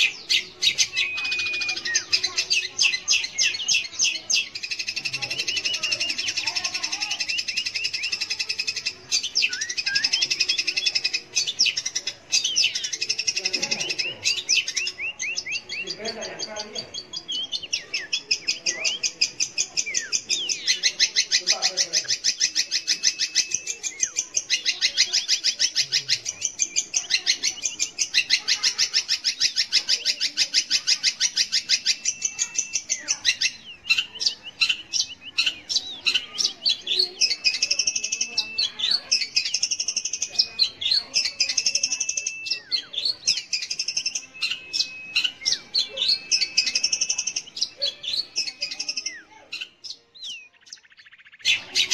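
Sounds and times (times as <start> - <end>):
shrike singing harsh chatter: 0.0 - 51.9.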